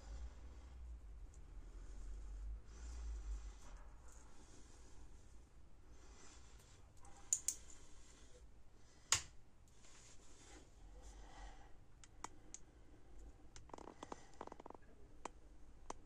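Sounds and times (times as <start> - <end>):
faint room noise: 0.0 - 16.0.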